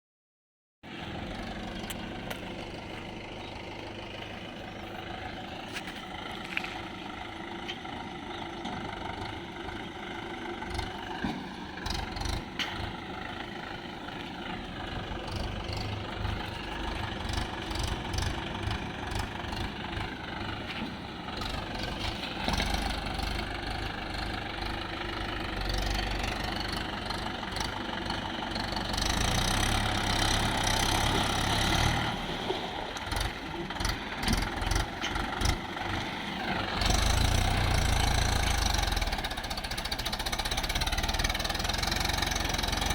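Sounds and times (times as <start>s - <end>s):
tractor diesel engine rumbling: 0.8s - 42.9s.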